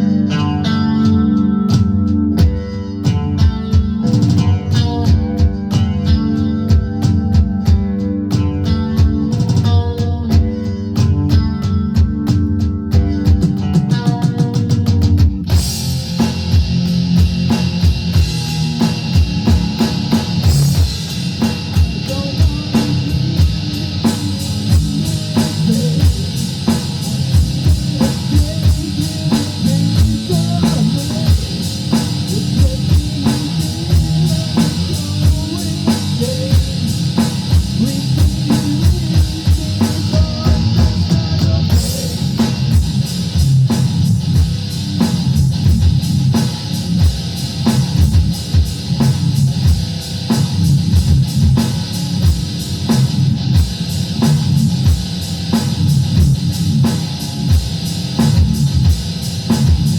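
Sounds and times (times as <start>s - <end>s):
drum kit and cymbals: 0.0s - 59.9s
guitar: 0.0s - 59.9s.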